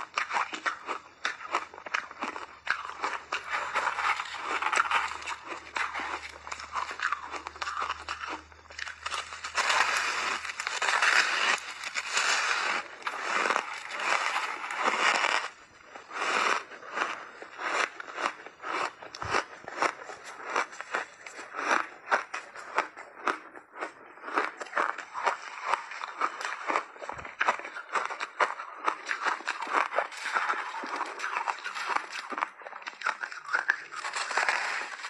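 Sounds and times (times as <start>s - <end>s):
person crunching ice: 0.0s - 35.0s.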